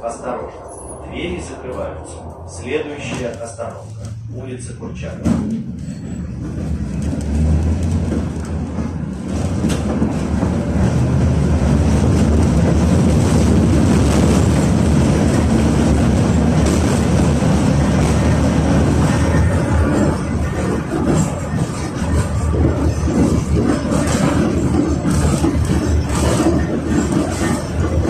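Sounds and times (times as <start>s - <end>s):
tram motor hum: 0.0s - 28.0s
wheel-on-rail noise: 5.5s - 28.0s.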